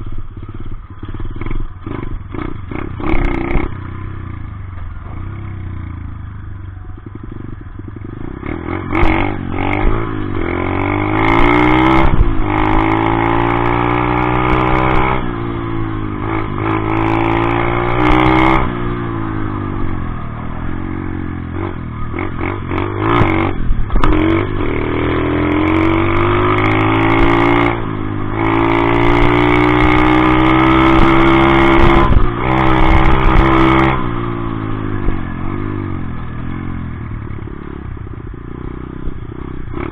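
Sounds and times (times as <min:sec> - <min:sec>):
dirt bike engine revving: 0:00.4 - 0:03.8, 0:08.0 - 0:20.0, 0:20.6 - 0:39.9.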